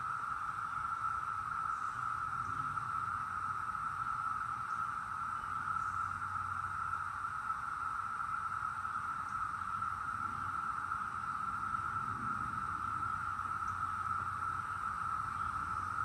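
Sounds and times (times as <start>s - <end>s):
cicadas droning in chorus: 0.0s - 16.0s.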